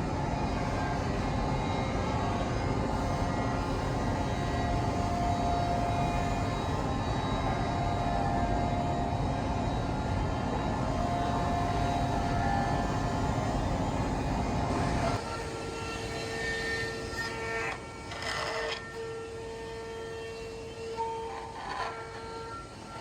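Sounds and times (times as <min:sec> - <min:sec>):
router spindle whine: 0:00.0 - 0:23.0
router cutting noise: 0:03.0 - 0:23.0.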